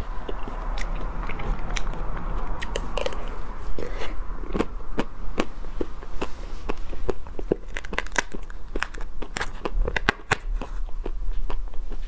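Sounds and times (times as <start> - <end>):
chewing crunchy ice cream: 0.0 - 12.0.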